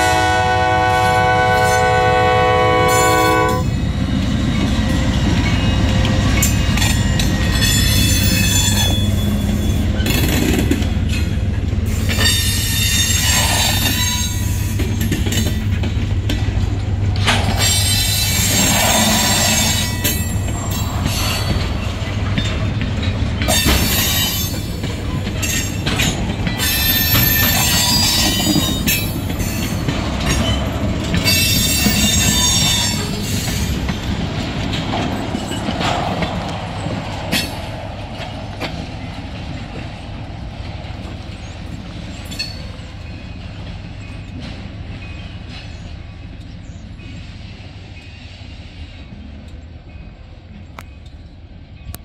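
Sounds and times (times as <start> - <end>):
low rumble of train: 0.0 - 52.0
train clanking: 0.0 - 52.0
train wheels squealing on rails: 2.8 - 51.9.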